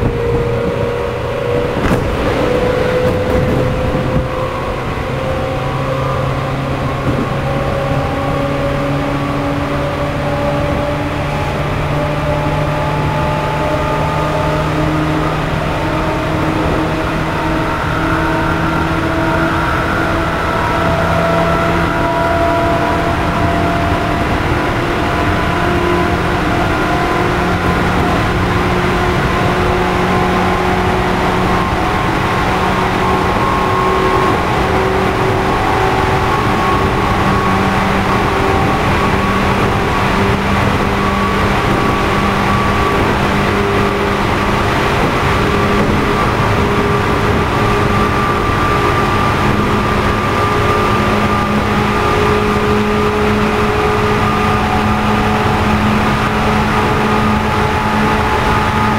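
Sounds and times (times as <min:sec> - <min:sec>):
train traction motors humming: 0:00.0 - 0:58.9
wheel and rail noise: 0:00.0 - 0:58.9.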